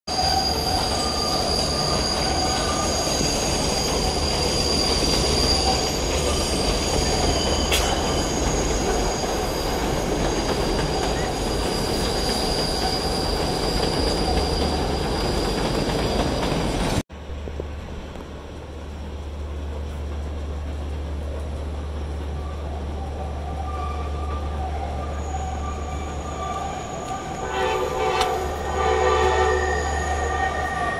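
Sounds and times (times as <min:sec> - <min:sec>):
train wheels squealing: 0:00.1 - 0:17.0, 0:21.9 - 0:30.9
train cars rumbling on track: 0:00.1 - 0:30.9.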